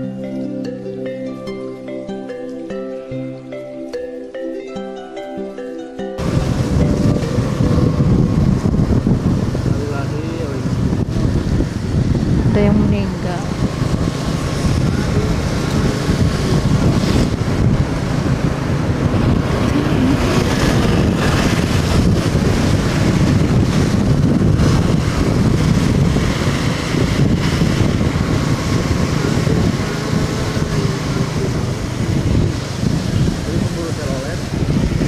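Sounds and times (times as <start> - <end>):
road noise: 0.0 - 35.0
motorcycle engine: 6.2 - 35.0
wind rushing over microphone: 6.2 - 35.0.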